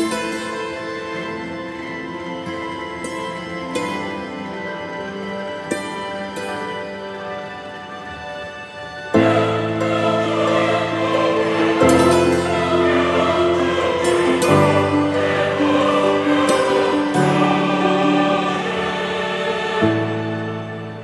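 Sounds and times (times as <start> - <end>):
slow sustained chords music: 0.0 - 21.0.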